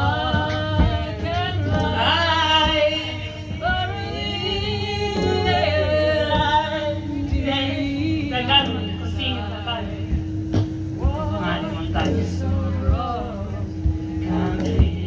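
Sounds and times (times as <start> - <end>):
voices singing long notes: 0.0 - 15.0.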